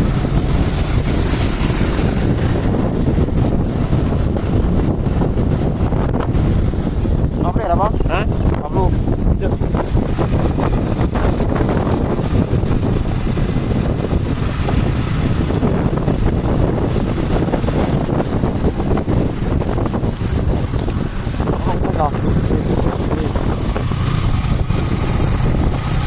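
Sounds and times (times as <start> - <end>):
vehicle running noise: 0.0 - 26.0
wind buffeting microphone: 0.0 - 26.0.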